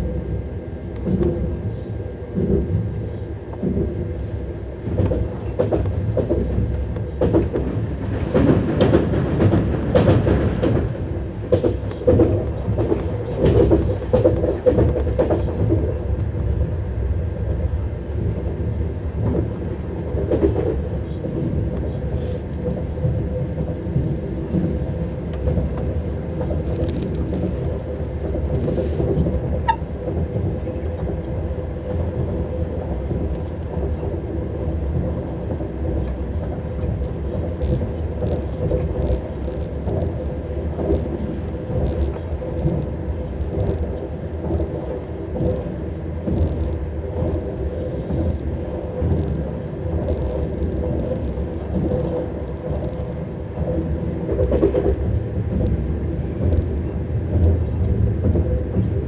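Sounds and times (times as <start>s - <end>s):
constant hum: 0.0s - 59.0s
train wheels rumbling: 0.0s - 59.0s.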